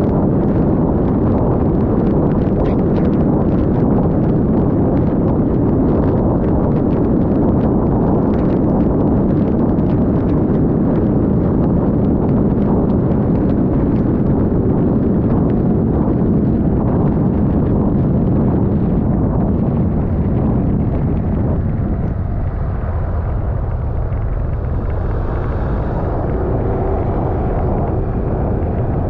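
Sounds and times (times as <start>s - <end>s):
wind buffeting camera: 0.0s - 29.0s.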